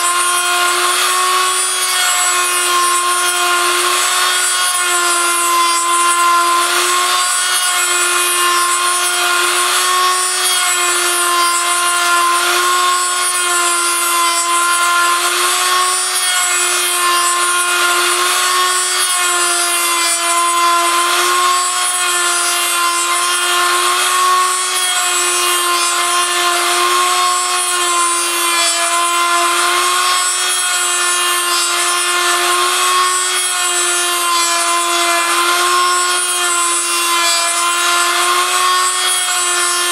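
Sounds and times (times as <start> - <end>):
bit rasping into wood: 0.0 - 39.9
rotary tool whining: 0.0 - 39.9.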